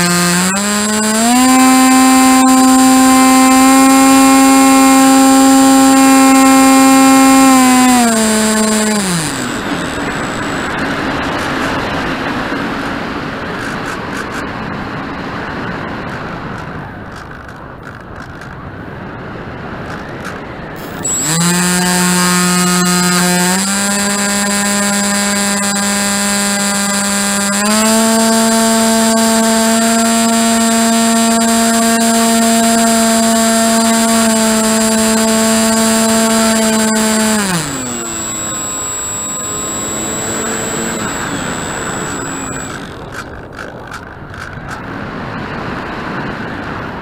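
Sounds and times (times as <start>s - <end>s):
motor and propeller hum: 0.0s - 14.4s, 19.7s - 47.0s.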